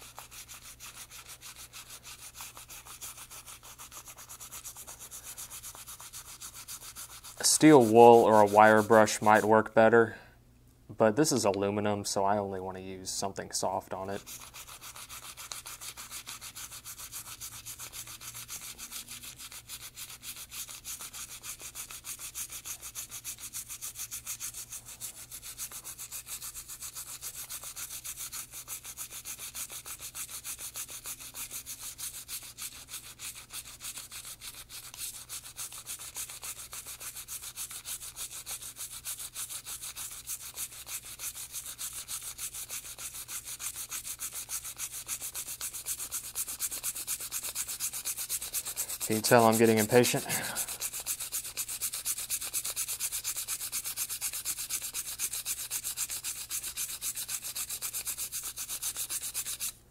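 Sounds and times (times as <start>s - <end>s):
toothbrush scrubbing metal: 0.0s - 9.5s, 13.2s - 59.8s.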